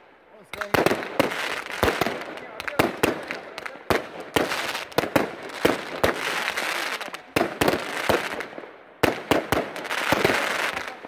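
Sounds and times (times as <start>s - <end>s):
fireworks crackling: 0.0s - 11.0s
fireworks bangs: 0.4s - 11.0s.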